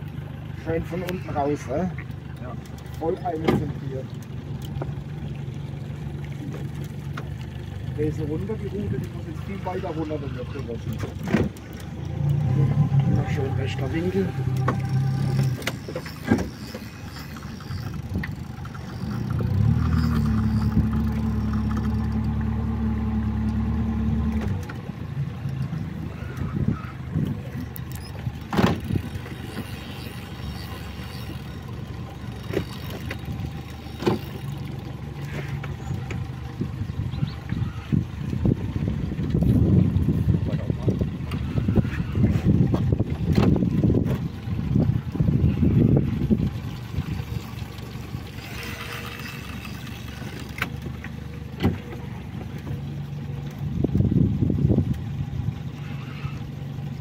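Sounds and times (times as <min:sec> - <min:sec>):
boat motor running: 0:00.0 - 0:57.0.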